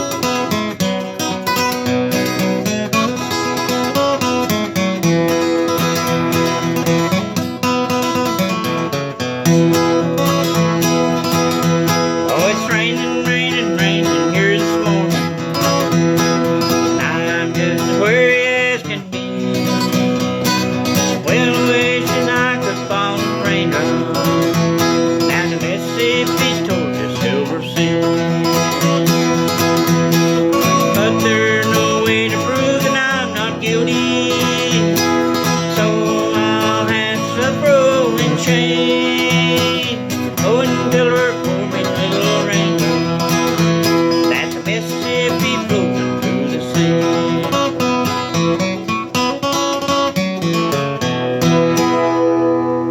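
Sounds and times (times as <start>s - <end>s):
acoustic guitar country music: 0.0s - 52.9s.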